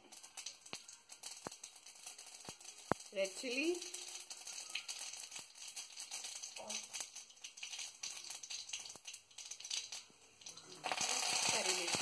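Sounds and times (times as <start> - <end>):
faint oil sizzle: 0.0 - 12.0
seeds popping in hot oil: 0.0 - 12.0.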